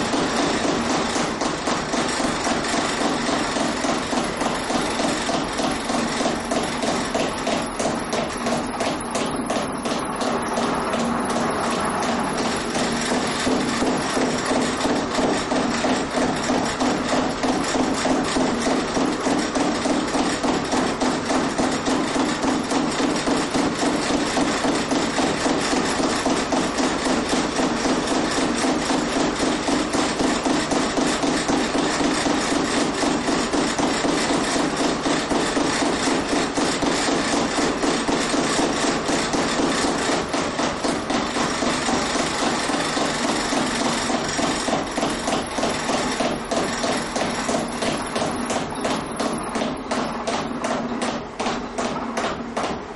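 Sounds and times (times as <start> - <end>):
wooden machine knocking rattle: 0.0 - 52.9.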